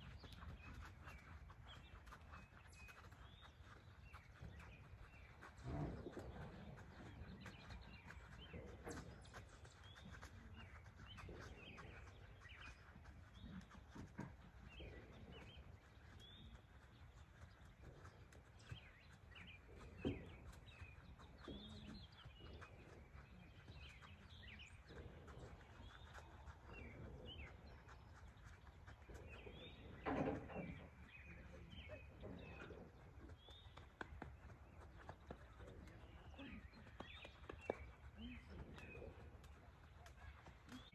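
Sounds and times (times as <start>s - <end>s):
birds chirping: 0.0s - 40.9s
low rumble of wind: 0.0s - 40.9s.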